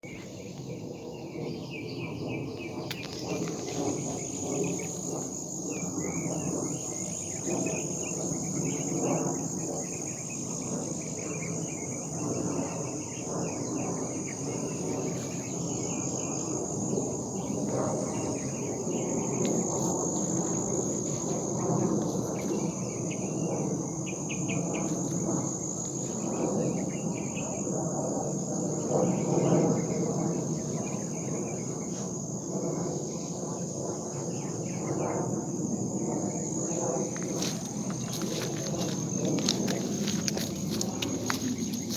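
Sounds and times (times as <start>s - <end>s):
crickets trilling: 0.0s - 41.9s
low wavering rumble from sky: 0.1s - 41.9s.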